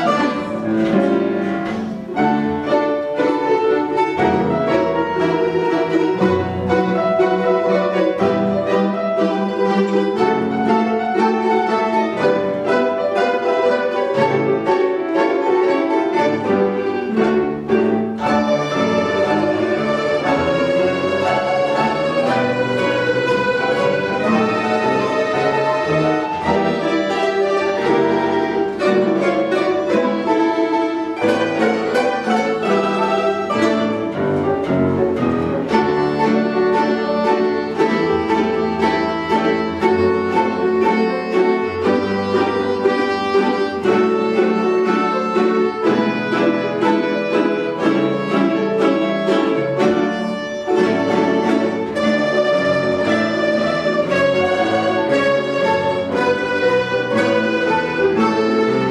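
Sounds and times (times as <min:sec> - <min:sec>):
folk instrument ensemble playing jazz: 0:00.0 - 0:58.9.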